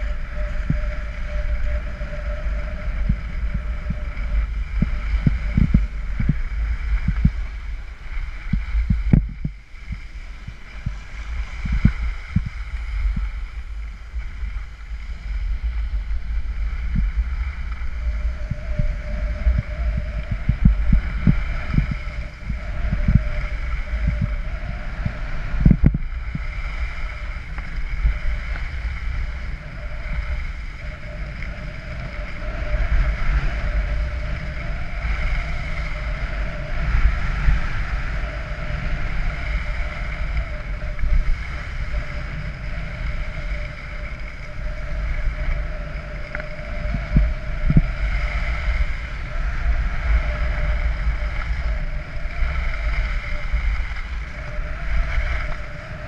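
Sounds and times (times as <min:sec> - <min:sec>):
skis scraping over snow: 0:00.0 - 0:56.0
wind rumbling on microphone: 0:00.0 - 0:56.0.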